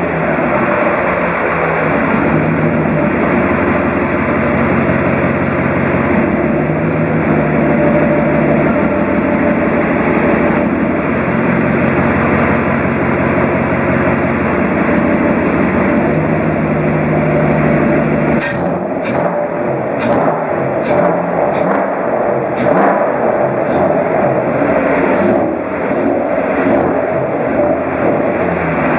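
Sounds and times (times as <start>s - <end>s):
car engine running: 0.0s - 28.9s.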